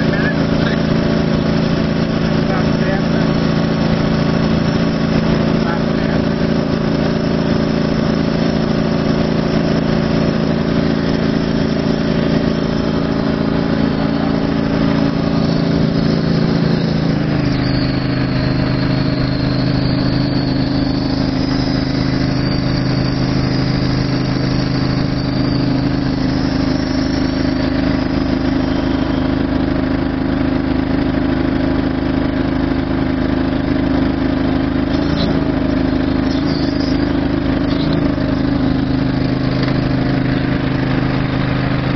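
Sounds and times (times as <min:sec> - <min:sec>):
hydraulic power unit engine running: 0:00.0 - 0:41.9.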